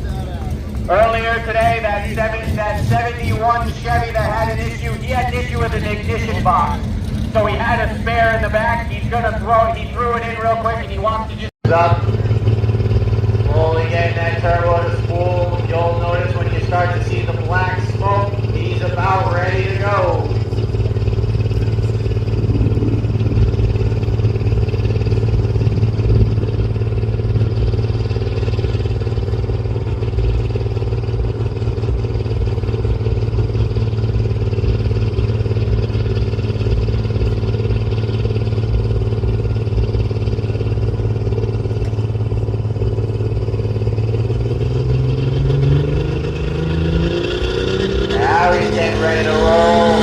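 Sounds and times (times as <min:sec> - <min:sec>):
truck engine revving high: 0:00.0 - 0:50.0.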